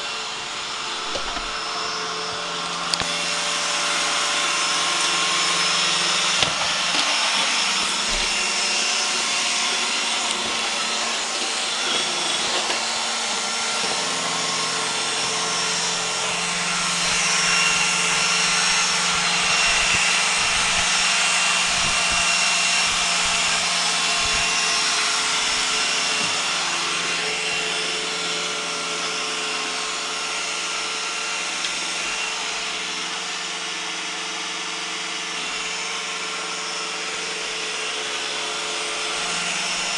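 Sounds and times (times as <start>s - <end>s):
robot vacuum whirring and whining: 0.0s - 39.9s.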